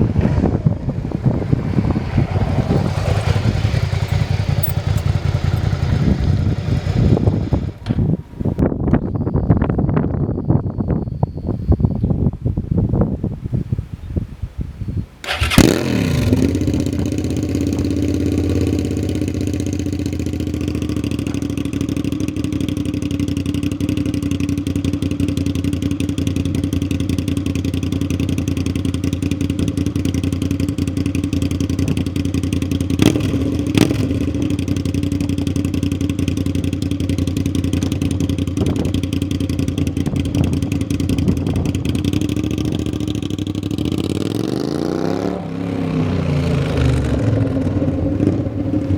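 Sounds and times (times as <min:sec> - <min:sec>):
motorcycle engine starting and idling: 0:00.0 - 0:08.6, 0:15.2 - 0:48.9.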